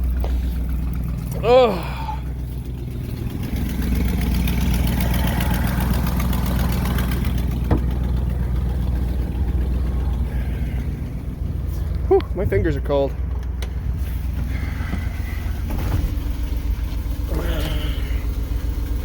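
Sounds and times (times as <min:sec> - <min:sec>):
pickup engine idling: 0:00.0 - 0:19.0.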